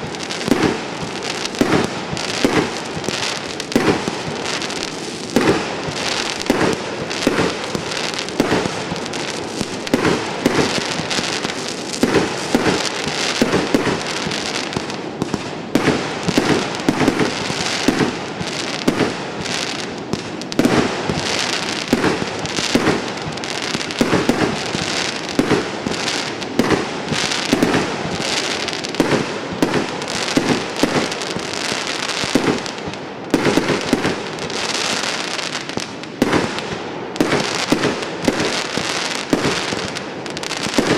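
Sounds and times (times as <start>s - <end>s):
crackling hiss: 0.0s - 40.9s
firework shots and bursts: 0.0s - 40.9s.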